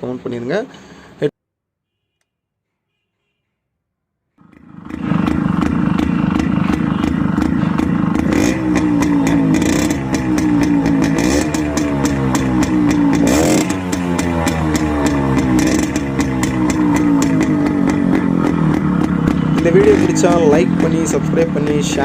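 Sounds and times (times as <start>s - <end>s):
motorcycle engine throttle blips: 1.9s - 22.0s.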